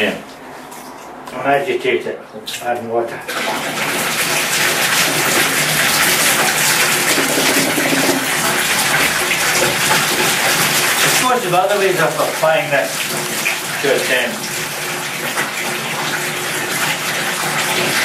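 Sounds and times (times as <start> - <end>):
water splashing into bathtub: 3.3 - 18.0.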